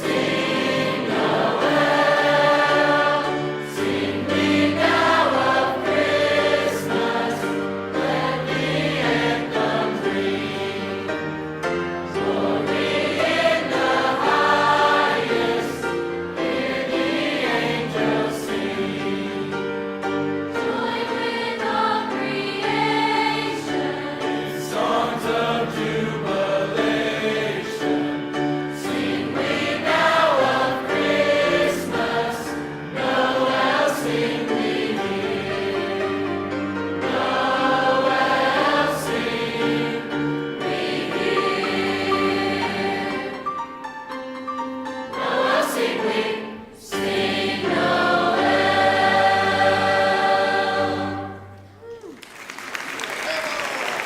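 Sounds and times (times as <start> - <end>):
choir singing: 0.0 - 44.2, 44.9 - 51.8.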